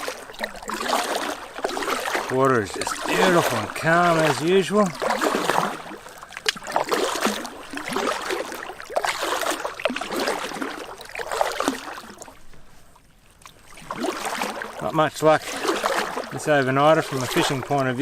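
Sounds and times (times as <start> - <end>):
paddle strokes through water: 0.0 - 18.0.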